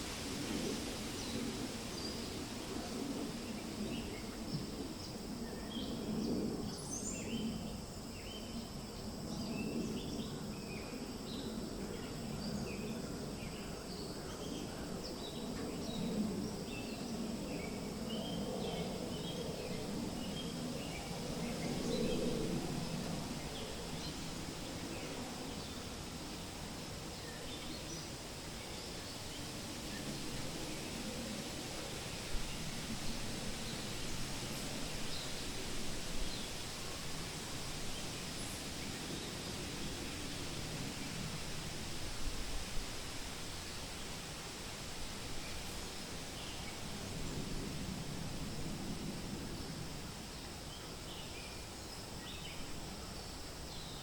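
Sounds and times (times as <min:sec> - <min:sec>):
wind rustling through leaves: 0:00.0 - 0:54.0.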